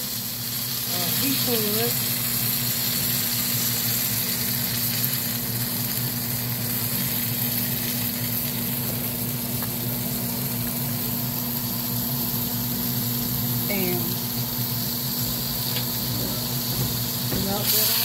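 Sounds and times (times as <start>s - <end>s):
butter sizzling in skillet: 0.0s - 18.0s
steady low hum: 0.4s - 18.0s.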